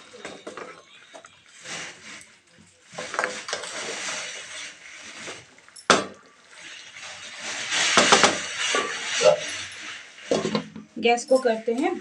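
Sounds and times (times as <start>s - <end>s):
spatula stirring in a pan: 0.2s - 5.8s, 6.4s - 12.0s.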